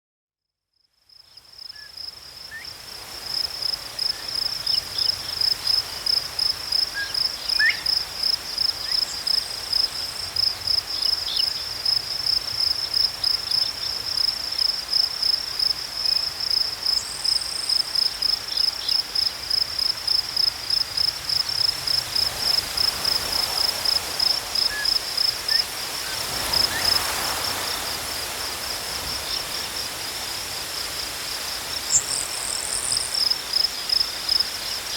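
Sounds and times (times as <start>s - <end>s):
insects chirring in grass: 1.3s - 34.9s.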